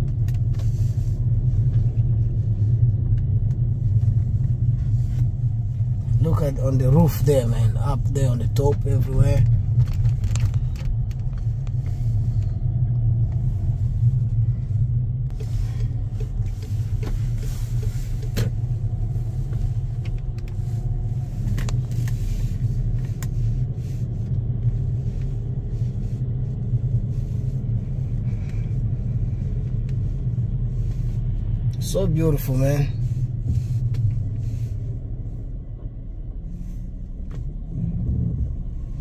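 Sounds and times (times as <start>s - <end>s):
car driving rumble: 0.0s - 39.0s.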